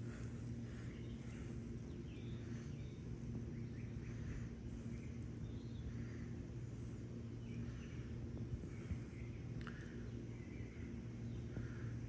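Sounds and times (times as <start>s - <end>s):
faint bird chirps: 0.0s - 12.0s
steady low hum: 0.0s - 12.0s.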